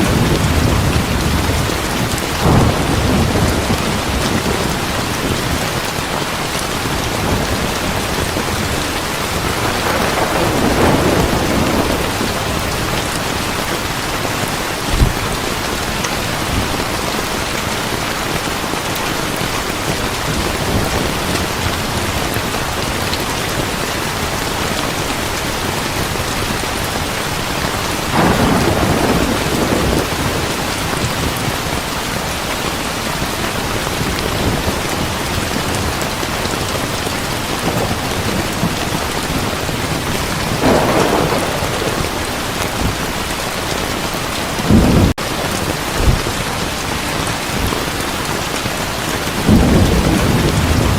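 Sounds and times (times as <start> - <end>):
heavy rain: 0.0 - 50.9
thunder rumbling: 0.0 - 50.9.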